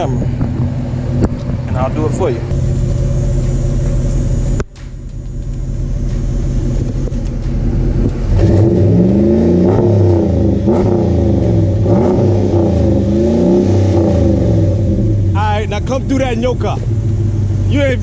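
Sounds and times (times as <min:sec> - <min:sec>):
engine revving: 0:00.0 - 0:18.0
truck engine idling: 0:00.0 - 0:18.0.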